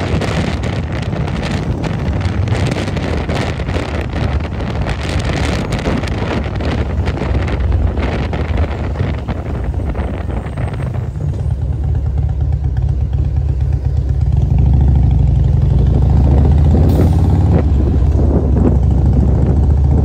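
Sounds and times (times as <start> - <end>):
motorcycle low rumble: 0.0 - 20.0
wind buffeting microphone: 0.0 - 20.0.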